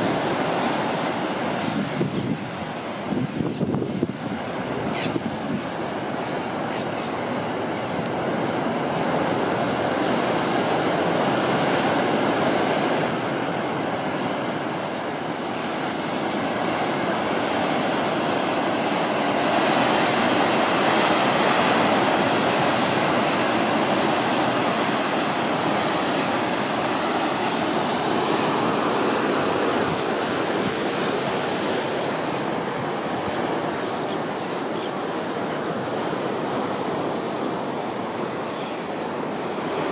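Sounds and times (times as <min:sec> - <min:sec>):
ocean surf breaking against rocks: 0:00.0 - 0:39.9.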